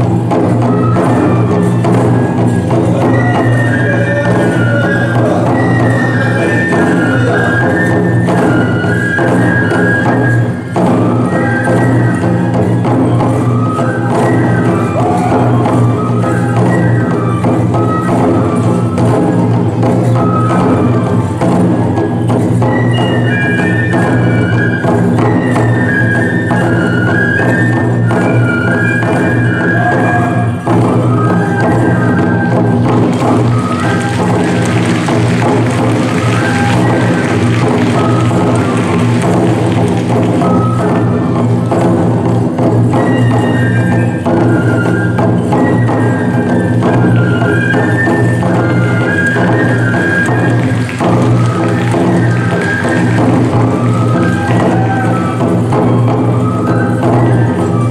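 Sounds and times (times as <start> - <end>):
bamboo flutes playing melody: 0.0 - 57.9
taiko drum beats: 0.0 - 57.9.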